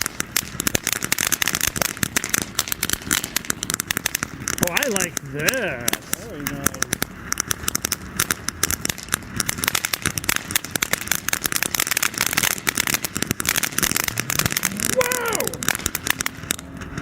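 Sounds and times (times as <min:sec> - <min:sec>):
firework fountain crackling and hissing: 0:00.0 - 0:17.0.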